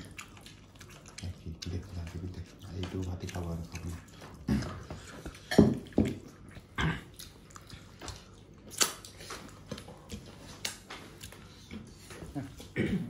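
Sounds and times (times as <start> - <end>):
wet chewing and smacking: 0.0 - 12.8.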